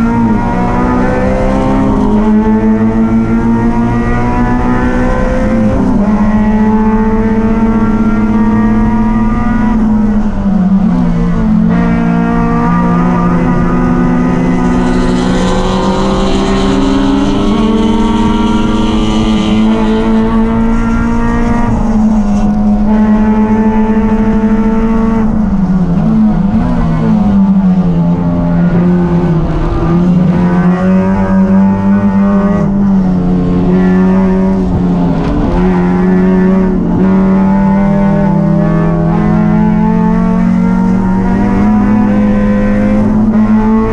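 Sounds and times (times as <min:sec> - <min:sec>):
racing engine running hard: 0:00.0 - 0:43.9.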